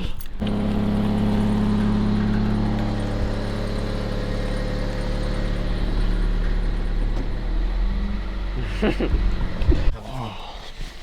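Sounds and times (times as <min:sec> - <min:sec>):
car engine idling: 0:00.4 - 0:09.9.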